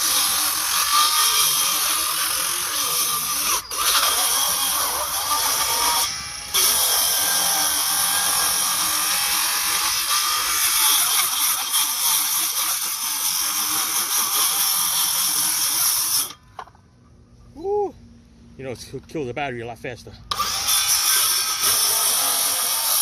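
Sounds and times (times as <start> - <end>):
circular saw cutting wood: 0.0 - 16.4, 20.3 - 23.0.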